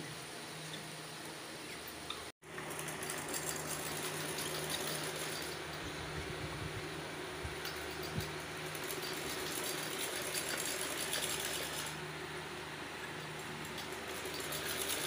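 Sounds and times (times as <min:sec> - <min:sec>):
machine whirring: 0:02.4 - 0:15.0.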